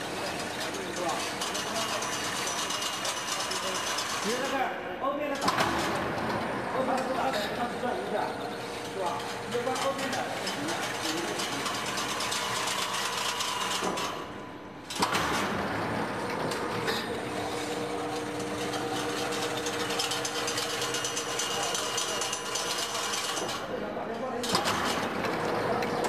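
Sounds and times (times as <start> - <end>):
weaving machine clattering: 0.0 - 4.6, 5.3 - 14.2, 14.9 - 23.7, 24.4 - 26.0.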